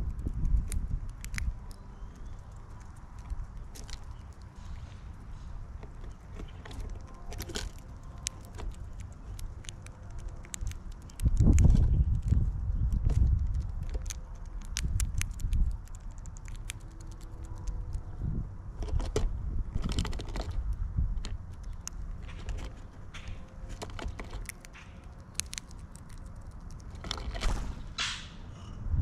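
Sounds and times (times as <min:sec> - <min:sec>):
beaks pecking seed: 0:00.0 - 0:18.2, 0:18.8 - 0:28.4.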